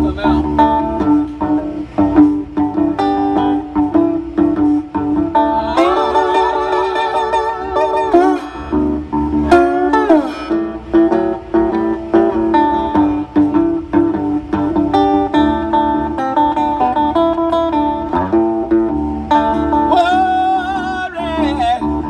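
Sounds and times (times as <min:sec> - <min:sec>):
electric guitar blues lead: 0:00.0 - 0:22.0.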